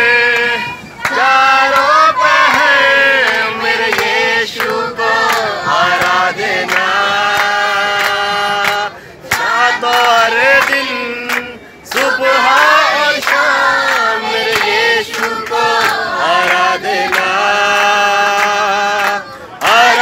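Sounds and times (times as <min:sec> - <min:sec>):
group singing in unison: 0:00.0 - 0:20.0
hand clapping: 0:01.0 - 0:12.2, 0:13.2 - 0:20.0.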